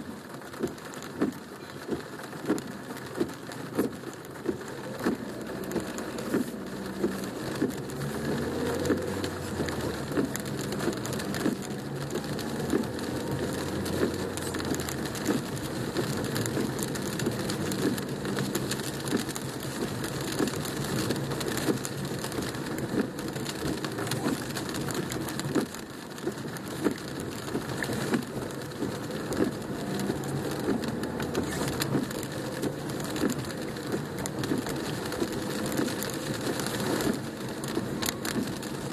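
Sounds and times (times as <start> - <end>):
heavy rain drumming on car roof: 0.0 - 38.9
large raindrops tapping: 0.0 - 38.9
car engine running low: 1.2 - 38.9.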